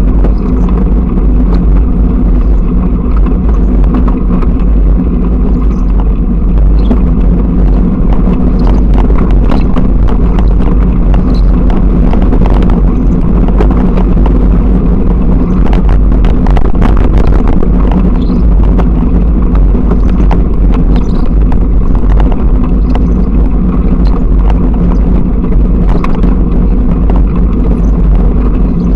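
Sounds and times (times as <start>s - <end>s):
bicycle rumbling on dirt track: 0.0s - 28.9s.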